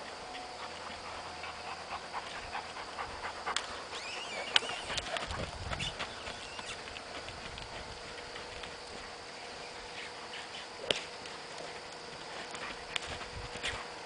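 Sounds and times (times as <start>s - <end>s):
hoofbeats on soft dirt: 0.1s - 14.0s.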